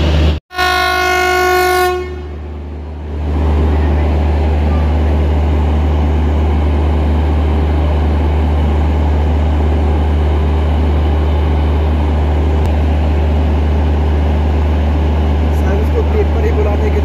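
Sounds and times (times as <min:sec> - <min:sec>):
train diesel engines droning: 0:00.0 - 0:17.0.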